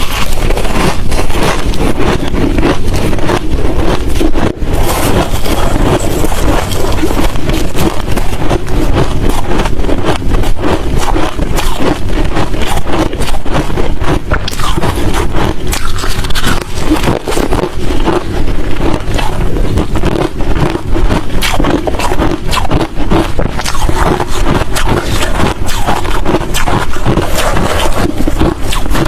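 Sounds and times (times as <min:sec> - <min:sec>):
chewing crushed ice crunches: 0:00.0 - 0:29.0.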